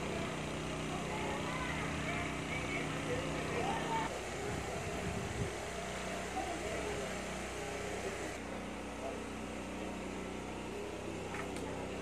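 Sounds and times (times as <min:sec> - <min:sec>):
outdoor background noise: 0:00.0 - 0:12.0
steady motor hum: 0:00.0 - 0:12.0.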